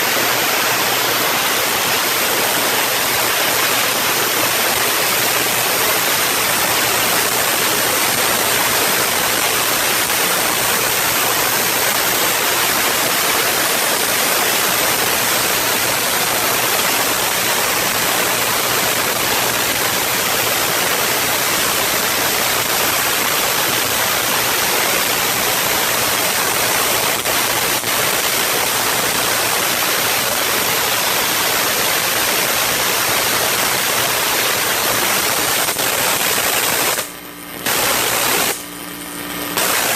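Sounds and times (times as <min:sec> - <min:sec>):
steady rushing rain noise: 0:00.0 - 0:36.8.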